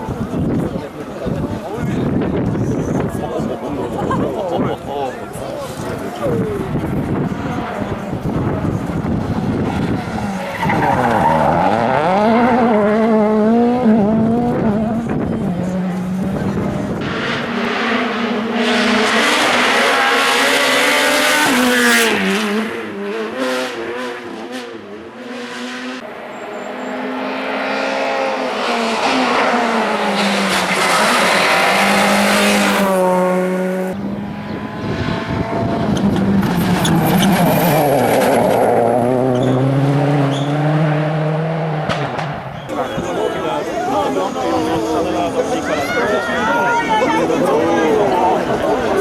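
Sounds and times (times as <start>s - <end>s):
rally car engines revving: 0.0s - 49.0s.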